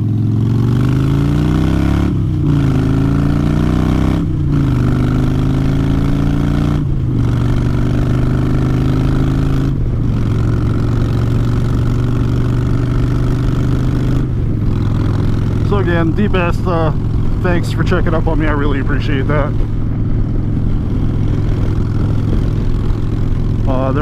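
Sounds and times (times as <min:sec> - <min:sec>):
motorcycle accelerating through gears: 0:00.0 - 0:24.0.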